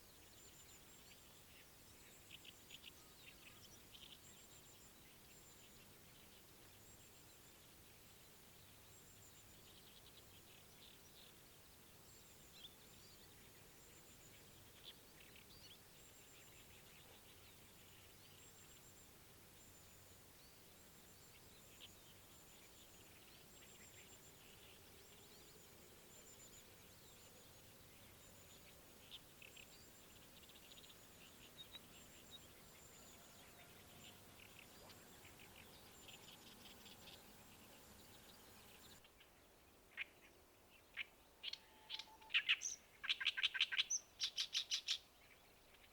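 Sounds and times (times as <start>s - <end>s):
distant small birds chirping: 0.0s - 45.9s
faint riverside ambience: 0.0s - 45.9s.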